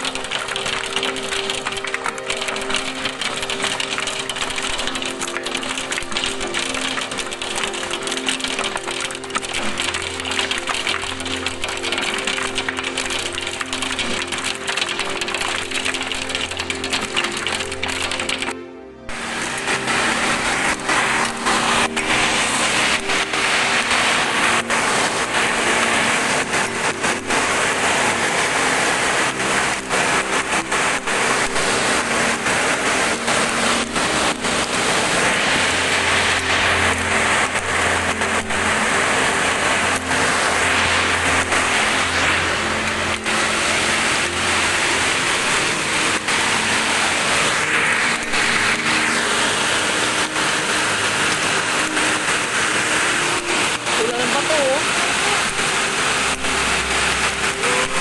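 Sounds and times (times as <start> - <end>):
hailstones striking: 0.0 - 58.0
low hum: 0.0 - 58.0
rain hissing: 0.0 - 58.0.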